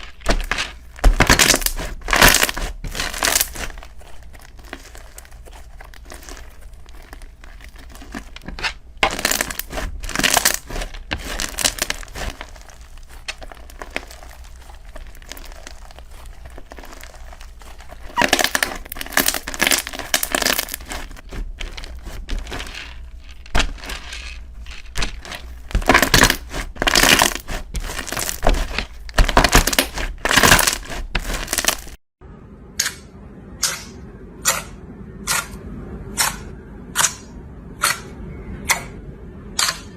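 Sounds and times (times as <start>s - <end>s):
slime crackling and crinkling: 0.0s - 32.0s.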